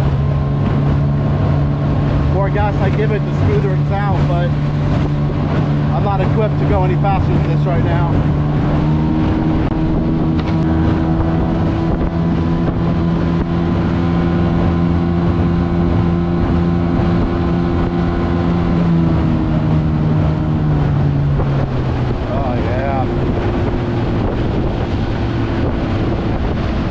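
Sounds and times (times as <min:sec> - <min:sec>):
outboard motor running: 0:00.0 - 0:26.9.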